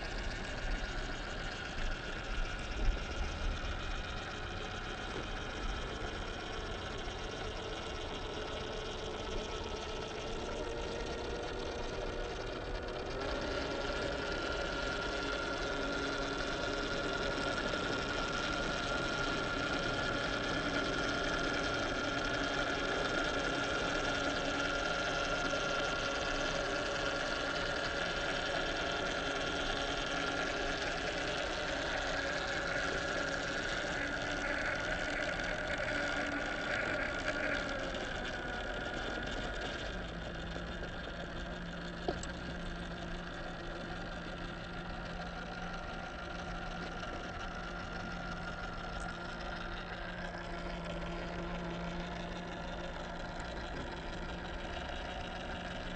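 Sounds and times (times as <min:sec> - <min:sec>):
electric motor whining: 0:00.0 - 0:55.9
low steady hum: 0:00.0 - 0:55.9.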